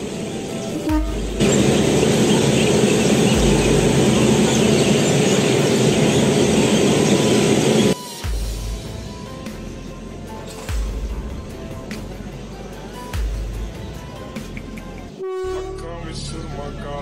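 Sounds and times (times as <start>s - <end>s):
locomotive rumble and hiss: 0.0s - 17.0s.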